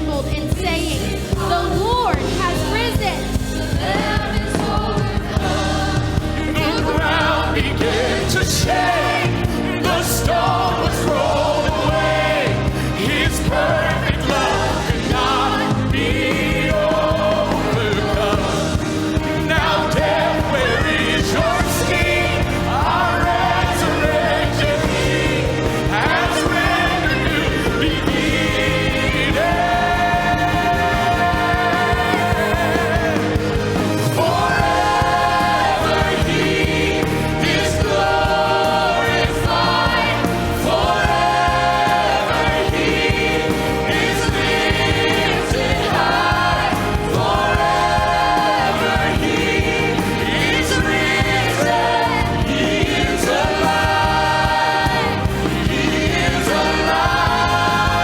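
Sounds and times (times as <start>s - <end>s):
live band playing: 0.0s - 58.0s
vocal group singing: 0.0s - 58.0s.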